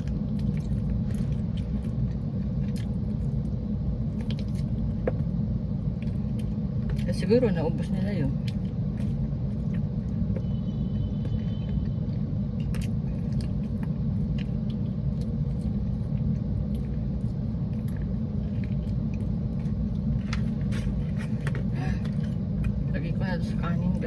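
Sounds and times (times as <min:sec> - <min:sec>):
low rumble inside car cabin: 0:00.0 - 0:24.0.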